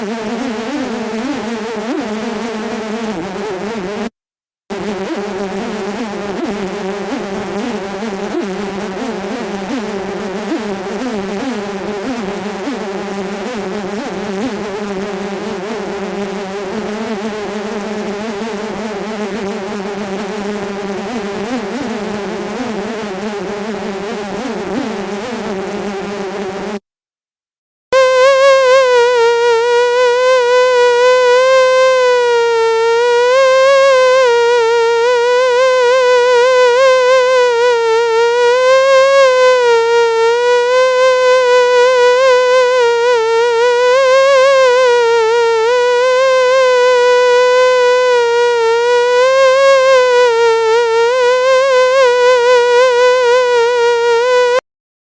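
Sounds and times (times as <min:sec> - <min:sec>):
mosquito whine: 0:00.0 - 0:26.8, 0:28.0 - 0:54.6.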